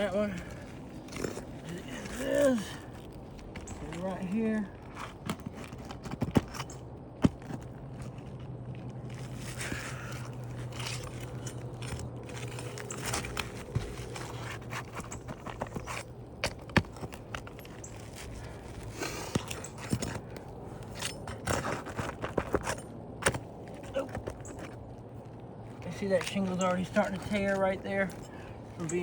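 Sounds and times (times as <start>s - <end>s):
shingles scraping and clicking: 0.0s - 29.0s.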